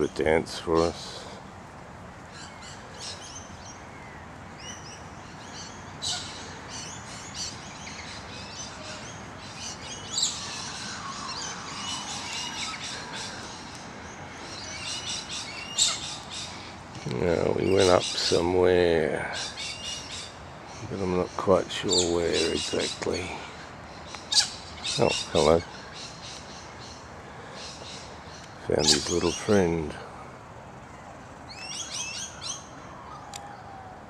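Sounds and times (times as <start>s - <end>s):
wild birds chirping and calling: 0.0s - 34.0s.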